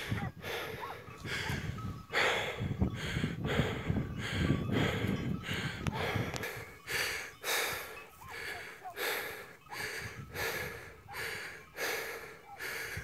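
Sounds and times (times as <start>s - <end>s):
hard rhythmic breathing: 0.0s - 13.0s.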